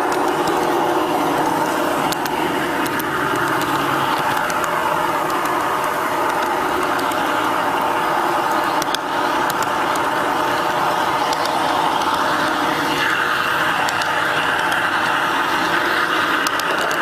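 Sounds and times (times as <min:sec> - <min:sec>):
constant hum: 0:00.0 - 0:17.0
model train motor whirring: 0:00.0 - 0:17.0.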